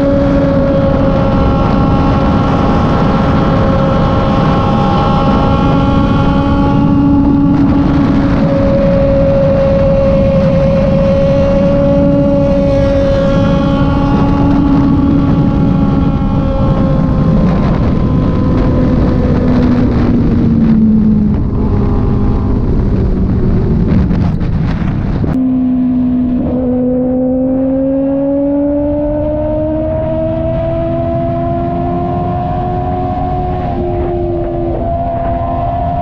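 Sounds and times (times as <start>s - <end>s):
heavy wind rush: 0.0s - 36.0s
motorcycle engine running: 0.0s - 36.0s.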